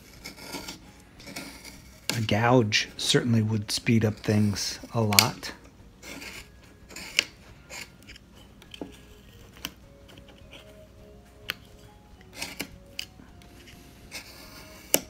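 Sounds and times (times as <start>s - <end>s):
knife whittling wood: 0.0s - 15.0s.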